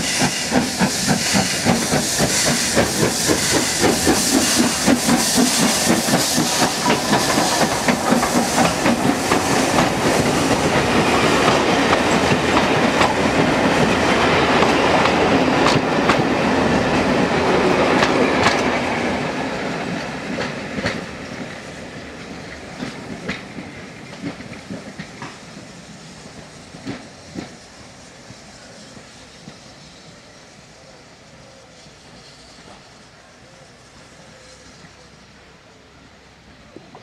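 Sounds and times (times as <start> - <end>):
steam train rumbling past: 0.0 - 37.0.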